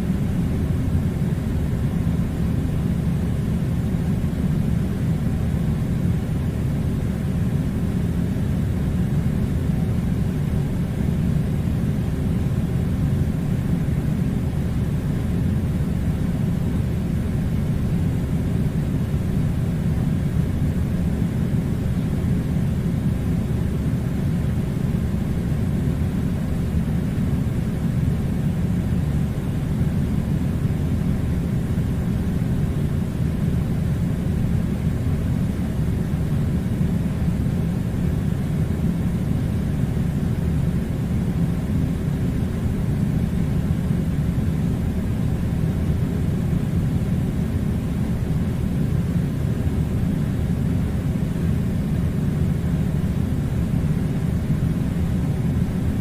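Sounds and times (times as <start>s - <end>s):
air conditioner running: 0.0s - 56.0s.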